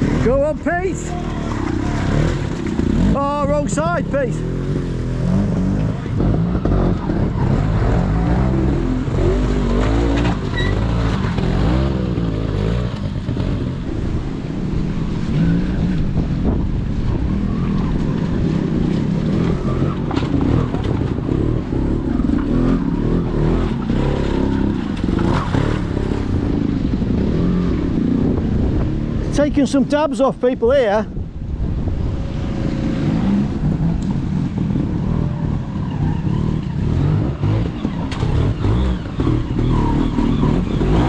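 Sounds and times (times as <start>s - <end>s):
motorcycle engine revving in blips: 1.1s - 14.2s, 15.1s - 29.3s, 32.0s - 41.0s.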